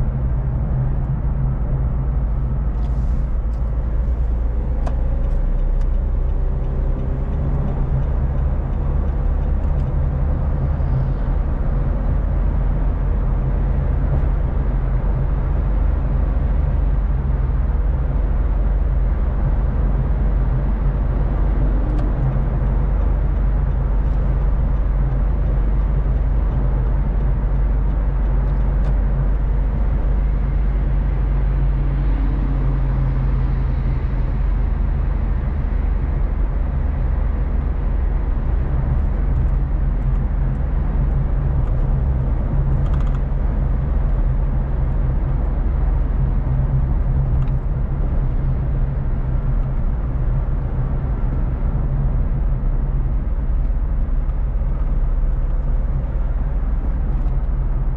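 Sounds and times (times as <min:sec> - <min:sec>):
car engine and tyre drone: 0:00.0 - 0:57.9.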